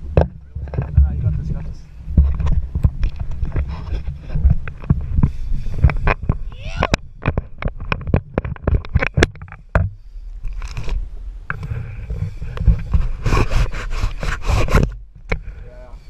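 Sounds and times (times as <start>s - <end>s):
scraping: 0.0s - 16.0s.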